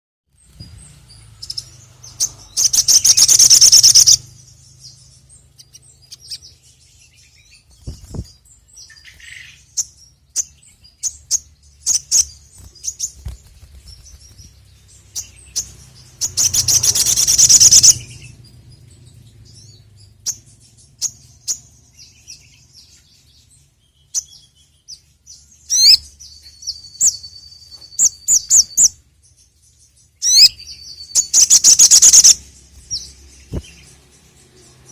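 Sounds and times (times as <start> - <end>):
sunbird chirping: 0.3 - 34.9
bird rapid trill: 0.4 - 24.7, 30.2 - 34.9.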